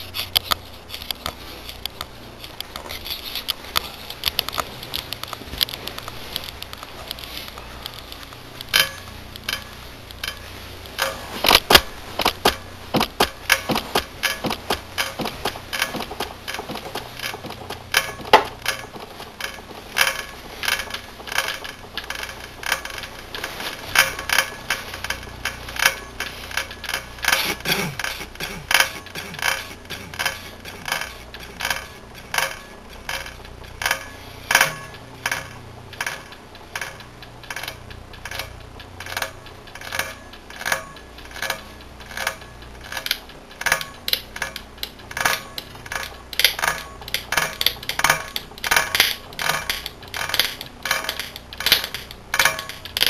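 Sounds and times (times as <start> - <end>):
low steady hum: 0.0 - 53.0
sharp clicks and knocks: 0.0 - 53.0.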